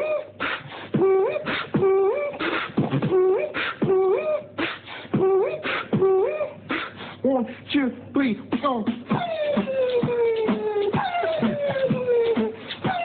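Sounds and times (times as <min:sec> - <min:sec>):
human beatboxing: 0:00.0 - 0:07.3, 0:08.4 - 0:13.0.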